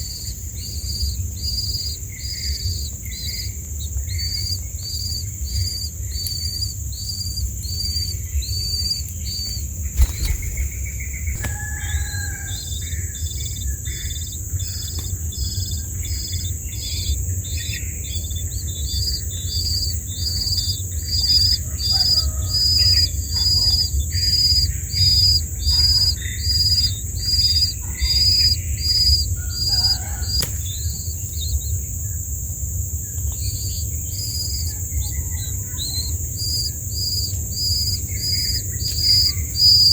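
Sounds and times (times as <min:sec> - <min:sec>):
insect trill: 0:00.0 - 0:39.9
nestling birds chirping: 0:00.0 - 0:39.9.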